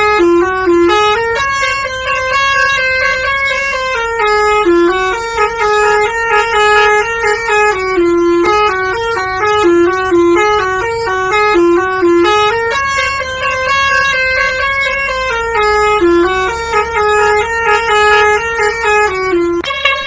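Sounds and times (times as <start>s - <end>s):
multi-tone bus horn tune: 0.0s - 20.0s.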